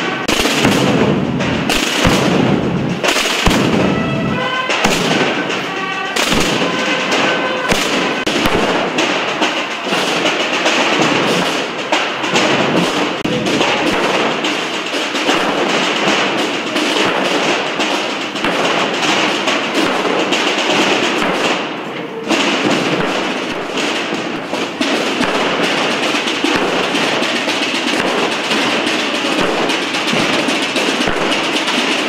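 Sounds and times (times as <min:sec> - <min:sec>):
massed procession drums: 0:00.0 - 0:32.0.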